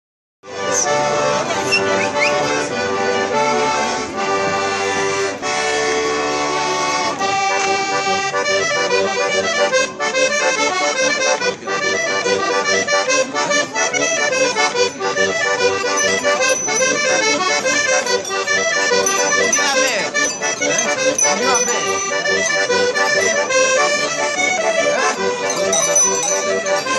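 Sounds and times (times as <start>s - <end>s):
accordion playing a folk tune: 0.4s - 26.9s.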